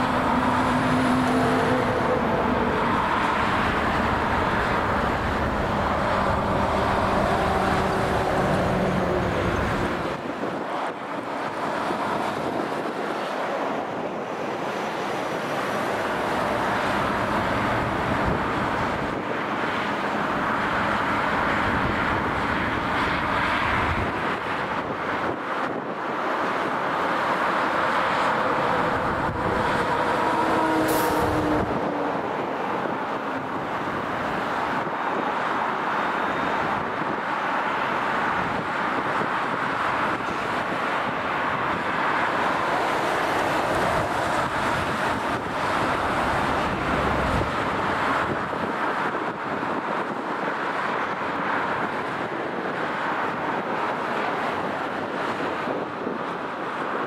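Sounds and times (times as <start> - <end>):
wind gusts on microphone: 0.0 - 57.0.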